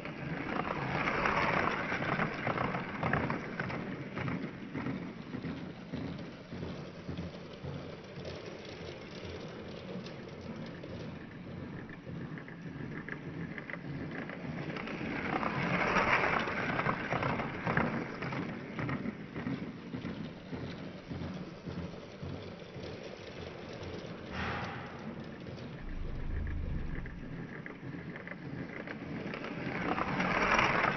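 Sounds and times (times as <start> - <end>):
toy train clattering on plastic track: 0.0 - 10.9, 11.8 - 24.5, 28.1 - 30.9.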